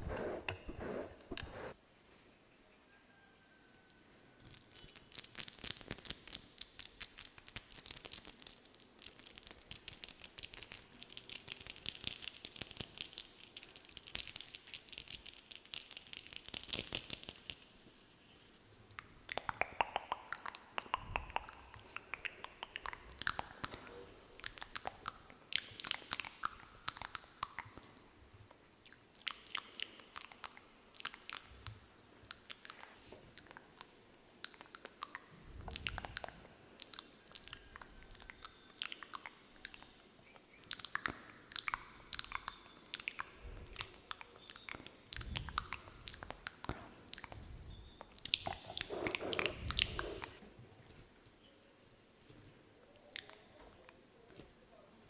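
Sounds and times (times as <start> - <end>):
crisp clicking and crackling: 4.4 - 17.9, 19.0 - 27.9, 29.2 - 51.1.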